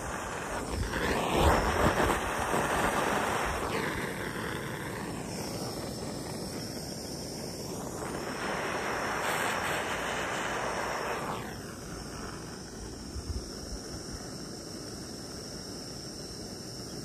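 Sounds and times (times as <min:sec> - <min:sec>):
propane torch hissing: 0:00.0 - 0:17.0.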